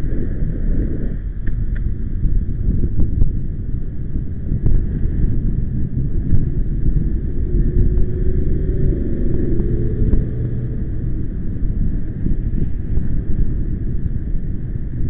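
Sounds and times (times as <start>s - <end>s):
faint wavering hum: 0.0s - 15.0s
wind buffeting microphone: 0.0s - 15.0s.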